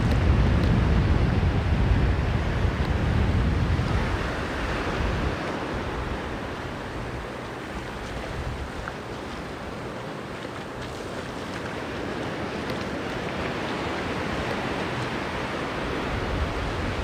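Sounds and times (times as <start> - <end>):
sea surf washing onto beach: 0.0 - 17.0
wind rumbling on microphone: 0.0 - 17.0.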